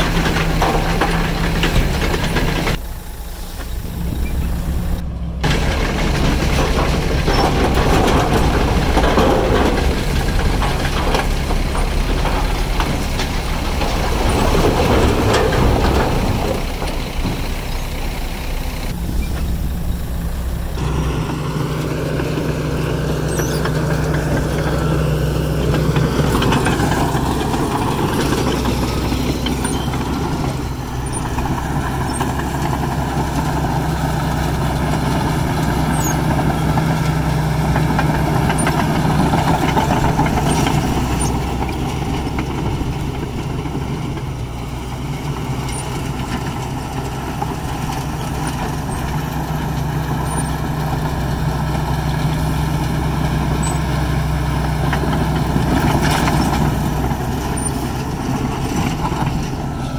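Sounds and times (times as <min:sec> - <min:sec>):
bulldozer engine droning: 0:00.0 - 0:59.9.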